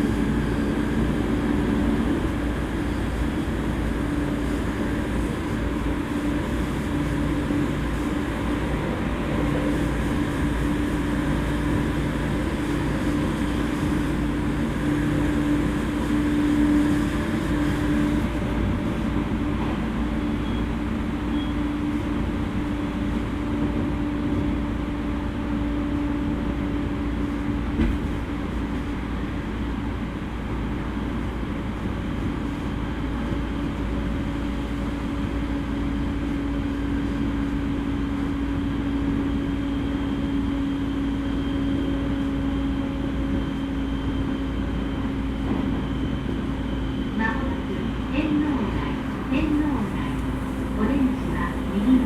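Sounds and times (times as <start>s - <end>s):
train motor and gear hum: 0.0s - 52.0s
train wheels rumbling on rail: 0.0s - 52.0s.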